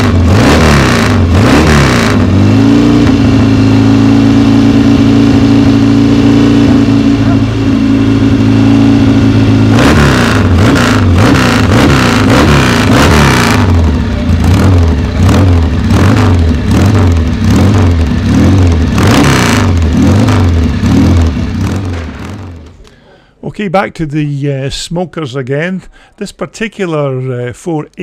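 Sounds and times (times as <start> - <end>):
motorcycle engine idling and revving: 0.0 - 22.9.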